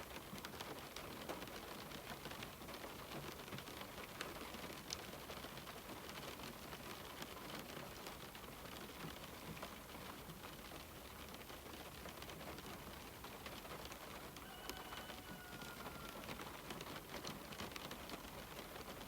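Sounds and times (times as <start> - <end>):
rain on a window: 0.0 - 19.0
raindrops ticking: 0.0 - 19.0.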